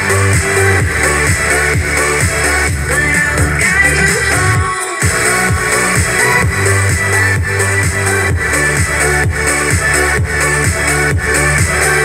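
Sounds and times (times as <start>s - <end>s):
kick drum: 0.0s - 11.7s
electronic dance music: 0.0s - 12.0s.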